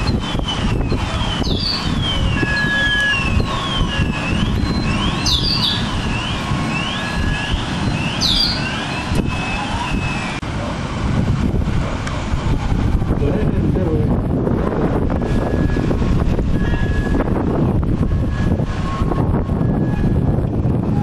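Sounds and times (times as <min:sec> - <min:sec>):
emergency siren wailing: 0:00.0 - 0:10.7, 0:14.5 - 0:21.0
wind on microphone: 0:00.0 - 0:21.0.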